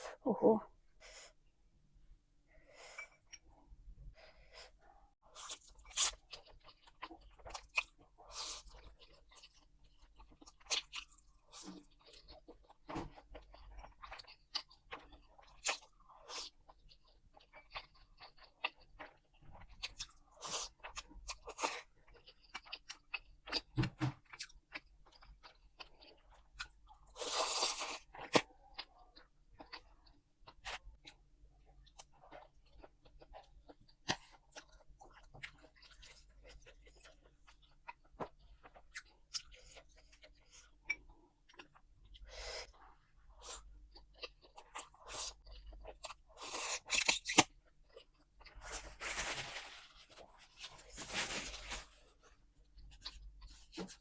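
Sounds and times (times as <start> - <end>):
person chewing and crunching: 5.3 - 54.0.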